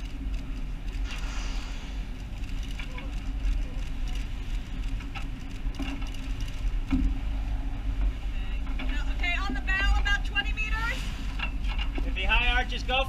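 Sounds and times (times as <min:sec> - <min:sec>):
ship engine humming: 0:00.0 - 0:13.0
wind rumbling on microphone: 0:00.0 - 0:13.0.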